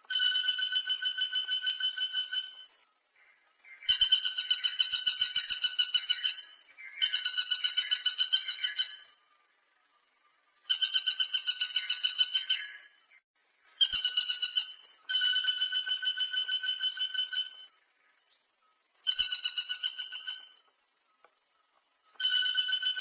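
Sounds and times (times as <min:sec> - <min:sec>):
woodpecker calling: 0:00.0 - 0:09.5, 0:10.5 - 0:23.0.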